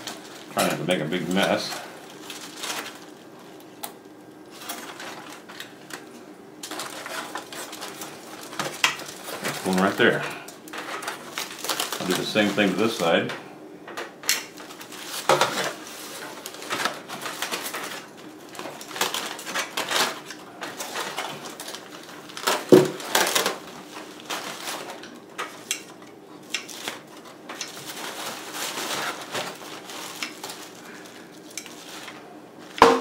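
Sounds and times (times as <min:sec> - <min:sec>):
aluminium foil crinkling: 0:00.0 - 0:13.3, 0:14.0 - 0:32.8.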